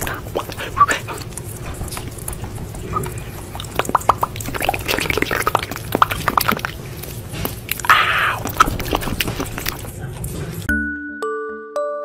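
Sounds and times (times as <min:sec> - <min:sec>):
animal chewing wetly: 0:00.0 - 0:10.0.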